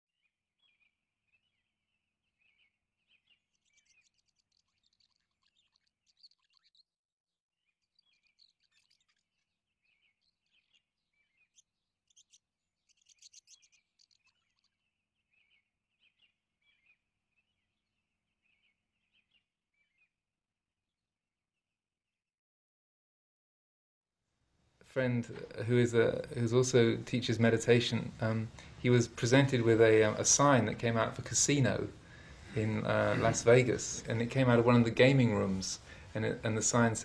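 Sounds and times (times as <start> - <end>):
faint birds chirping and trilling: 0.2 - 21.0, 25.0 - 37.0.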